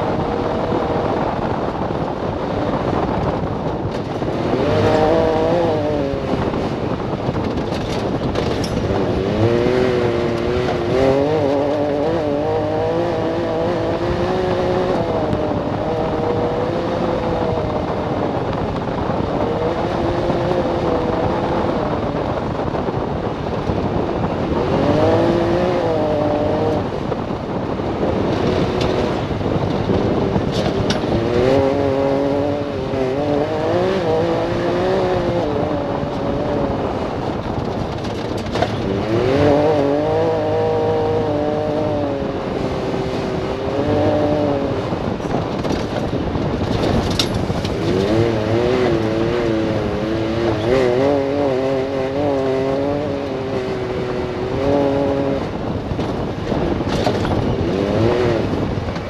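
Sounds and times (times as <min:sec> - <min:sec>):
engine revving while driving: 0:00.0 - 0:59.0
tyre and wind noise: 0:00.0 - 0:59.0.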